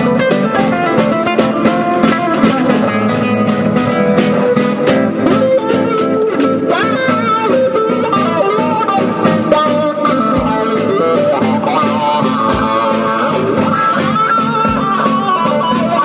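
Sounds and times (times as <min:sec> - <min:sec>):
guitar plucked melody: 0:00.0 - 0:16.0.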